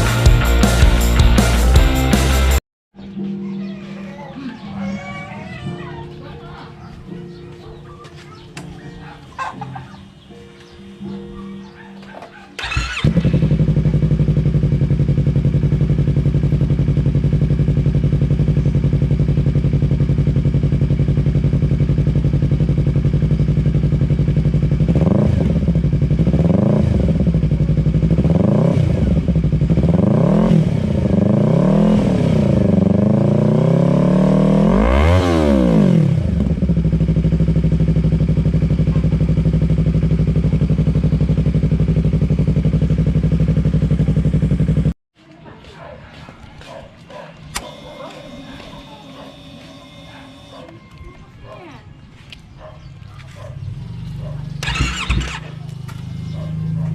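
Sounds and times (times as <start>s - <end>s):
motorcycle engine idling and revving: 0.0s - 2.6s, 6.9s - 56.9s.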